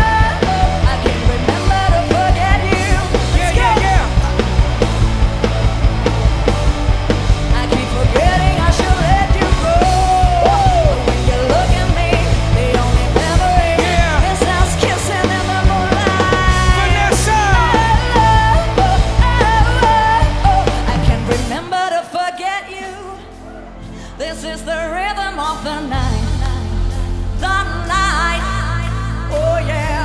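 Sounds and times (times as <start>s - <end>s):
woman singing: 0.0s - 4.6s, 7.5s - 30.0s
live band playing pop-rock: 0.0s - 30.0s.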